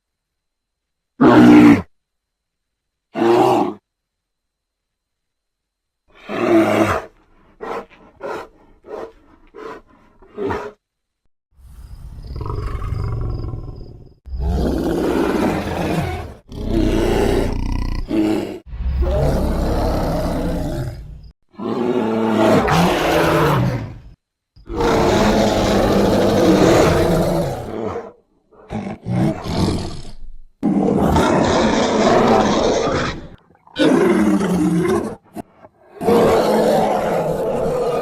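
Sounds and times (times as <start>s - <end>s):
bear roars and growls: 1.2s - 1.9s, 3.1s - 3.8s, 6.1s - 10.8s, 12.1s - 38.0s.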